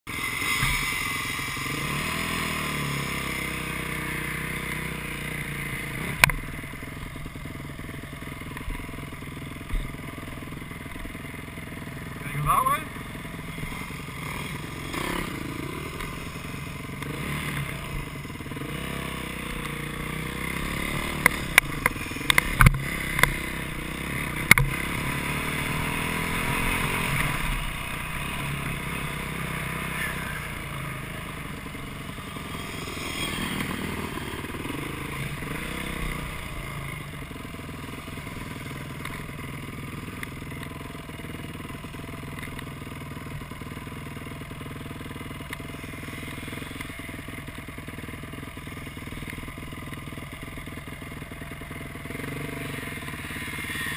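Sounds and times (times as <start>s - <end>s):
dirt bike engines revving: 0.1s - 53.9s.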